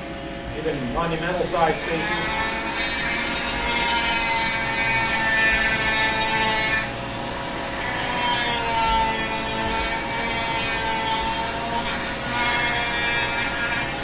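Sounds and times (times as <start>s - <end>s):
rotary carver grinding wood: 0.8s - 14.0s.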